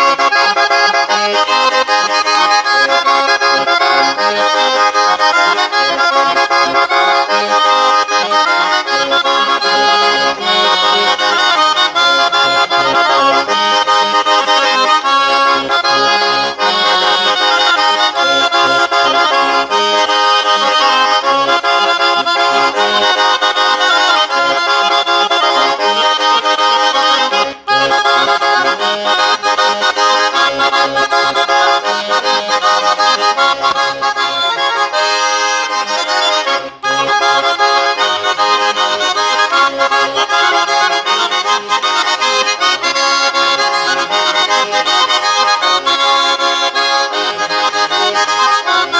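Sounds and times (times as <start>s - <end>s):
button accordion playing: 0.0s - 48.9s.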